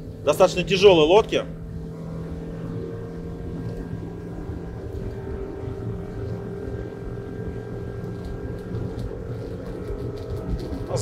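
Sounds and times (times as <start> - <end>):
outboard motor at full throttle: 0.0 - 11.0.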